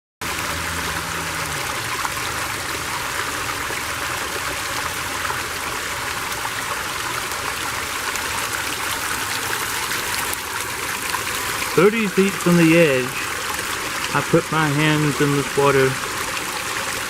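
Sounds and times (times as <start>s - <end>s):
creek water flowing: 0.2s - 17.0s.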